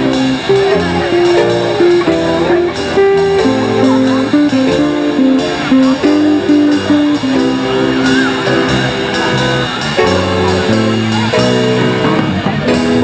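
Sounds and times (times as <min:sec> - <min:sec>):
band playing slow ballad: 0:00.0 - 0:13.0.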